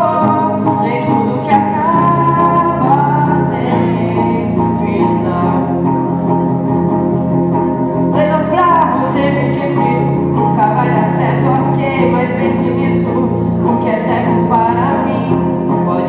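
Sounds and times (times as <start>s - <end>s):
person singing long notes: 0.0s - 6.2s, 8.2s - 16.0s
plucked guitar: 0.0s - 16.0s.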